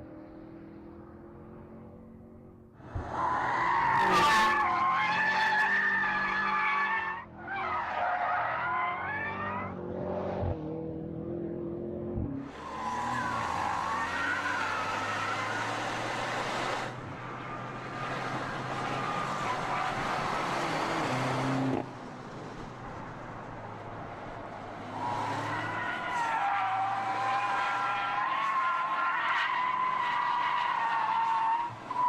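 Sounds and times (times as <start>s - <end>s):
tyre and road noise: 0.0s - 32.0s.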